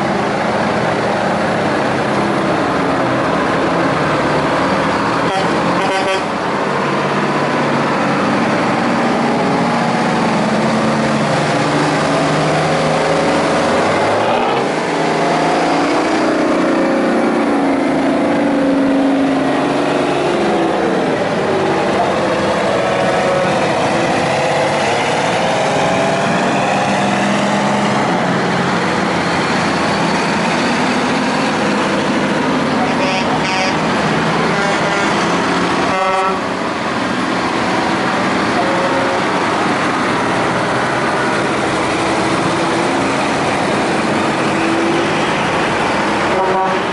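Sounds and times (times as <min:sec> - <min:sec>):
heavy trucks driving past: 0:00.0 - 0:46.9.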